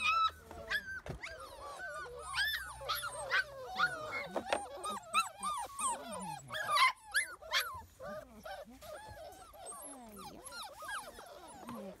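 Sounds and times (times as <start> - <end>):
puppies whining and yipping: 0.0 - 12.0.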